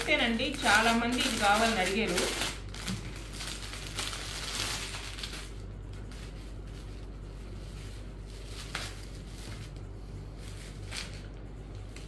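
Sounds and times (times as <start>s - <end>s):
low steady hum: 0.0s - 12.0s
plastic packaging crinkling: 0.0s - 12.0s.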